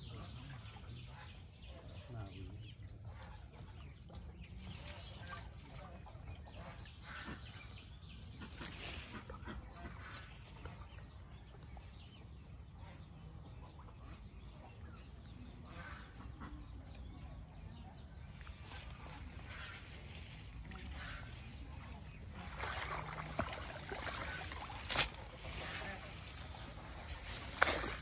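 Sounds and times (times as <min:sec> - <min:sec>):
faint bird calls: 0:00.0 - 0:28.0.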